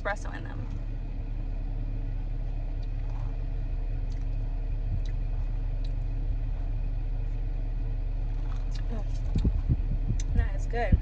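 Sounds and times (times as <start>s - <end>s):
car idling hum: 0.0s - 11.0s.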